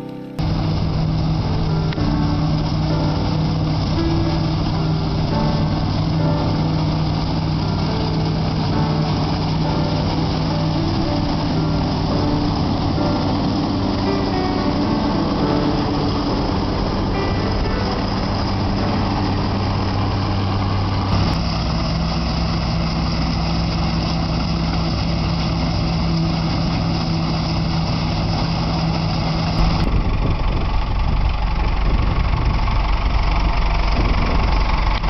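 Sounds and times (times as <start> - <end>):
combine harvester engine running: 0.0 - 35.0.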